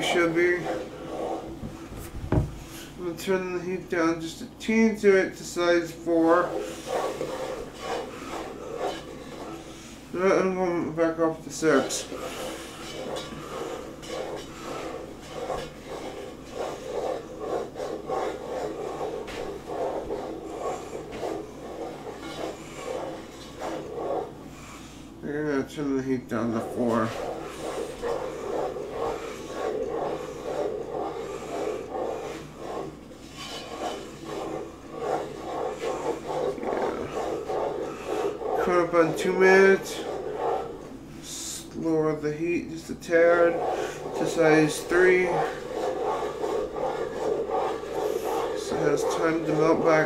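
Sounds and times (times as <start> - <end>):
wooden spoon scraping a pot: 0.0 - 50.0.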